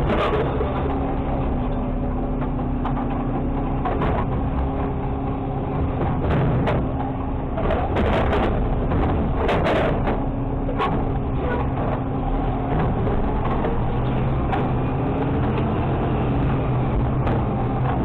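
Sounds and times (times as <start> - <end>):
garbage truck engine droning: 0.0 - 18.0.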